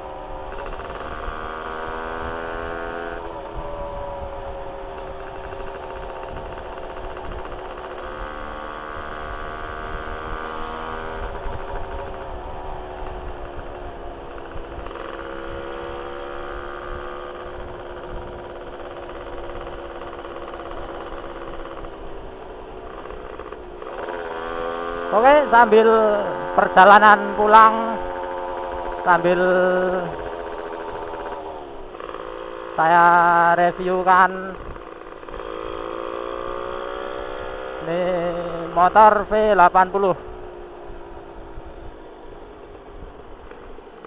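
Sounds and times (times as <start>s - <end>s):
two-stroke motorcycle engine revving: 0.0s - 44.0s.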